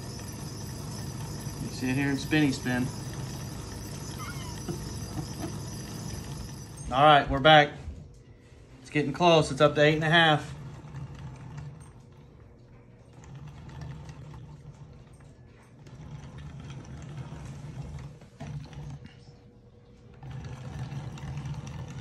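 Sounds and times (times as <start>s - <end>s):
popcorn cannon mechanical clatter: 0.0s - 7.8s, 8.9s - 22.0s.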